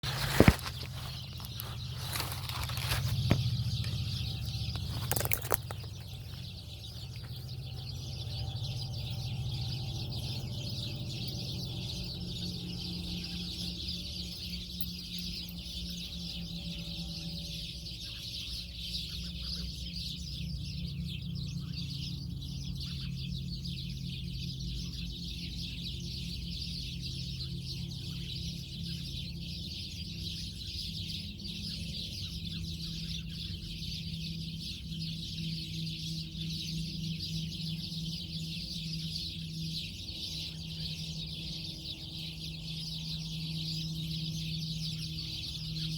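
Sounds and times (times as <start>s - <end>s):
chorus of birds calling: 0.0s - 45.9s
low steady hum: 0.0s - 45.9s.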